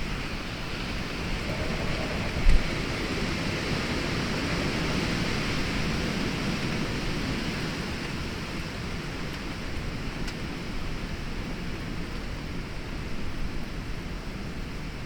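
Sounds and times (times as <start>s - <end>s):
storm rain: 0.0s - 15.0s
wind: 0.0s - 15.0s.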